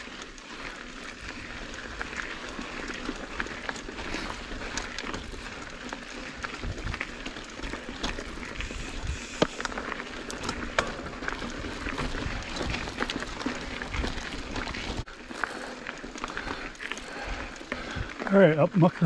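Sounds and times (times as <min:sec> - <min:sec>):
bike clicking and rattling: 0:00.0 - 0:19.0
bike tyres crackling on dirt: 0:00.0 - 0:19.0.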